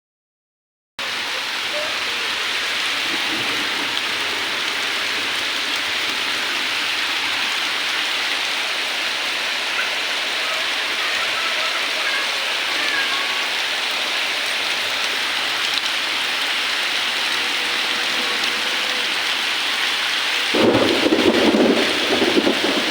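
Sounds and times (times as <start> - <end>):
heavy rain hissing: 1.0 - 22.9.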